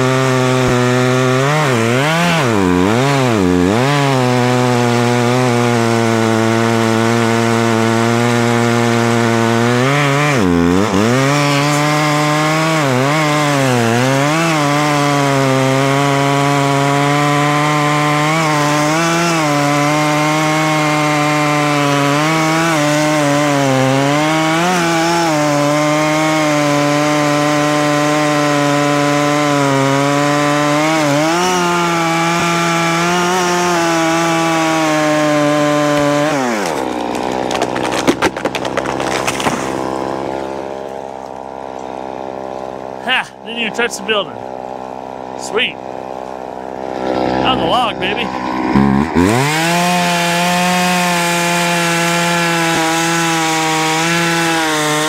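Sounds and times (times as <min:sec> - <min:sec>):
chainsaw cutting into tree trunk: 0:00.0 - 0:55.0
chainsaw idling: 0:00.0 - 0:55.0.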